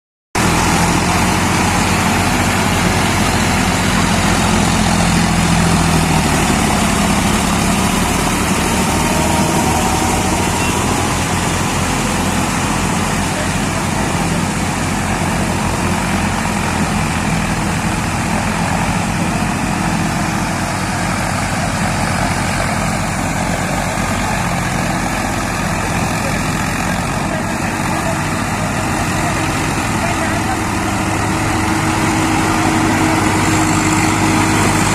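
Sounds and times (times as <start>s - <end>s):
tractor diesel engines running: 0.4s - 34.9s.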